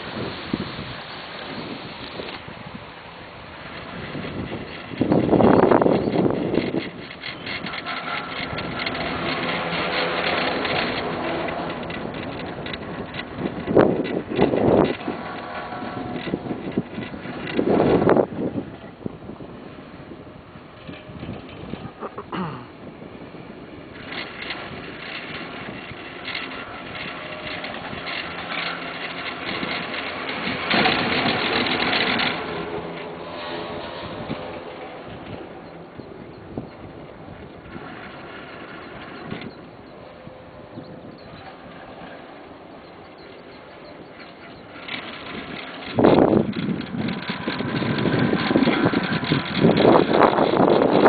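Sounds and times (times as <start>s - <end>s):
chairlift clattering: 0.0s - 51.0s
rushing noise: 0.0s - 51.0s
short rattles: 0.0s - 51.0s
wind on microphone: 0.0s - 51.0s.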